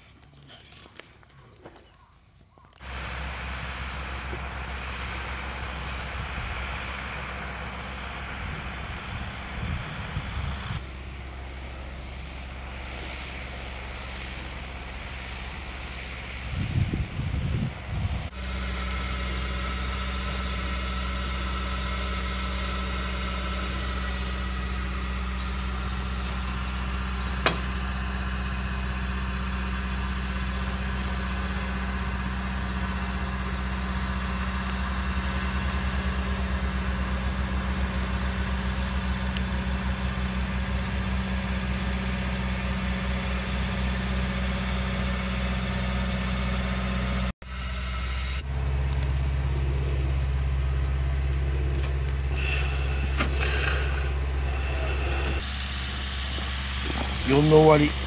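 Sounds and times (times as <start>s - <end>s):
tractor diesel engine idling: 2.7s - 58.0s.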